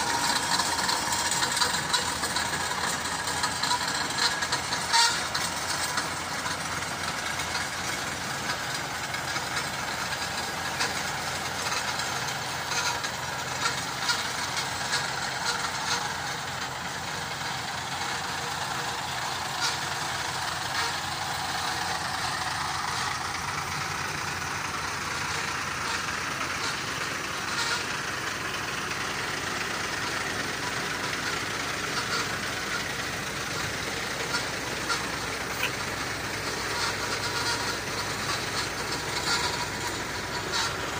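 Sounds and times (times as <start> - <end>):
heavy truck engine running: 0.0 - 40.9.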